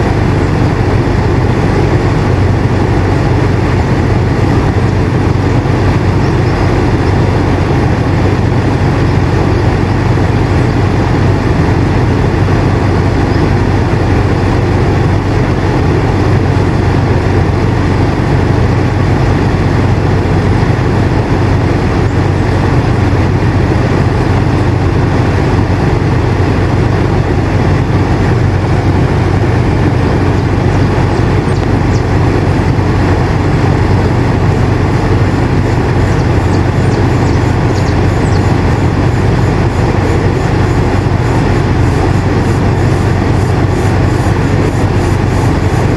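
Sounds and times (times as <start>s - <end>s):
air conditioner humming: 0.0s - 45.9s
air rushing: 0.0s - 45.9s.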